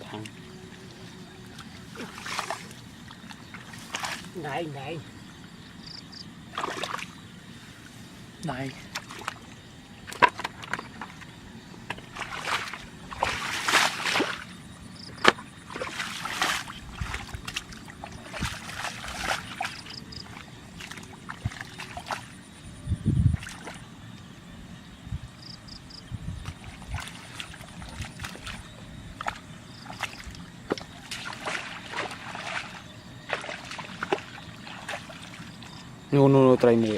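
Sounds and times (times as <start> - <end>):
water sloshing and splashing: 0.0 - 24.4, 25.9 - 36.9.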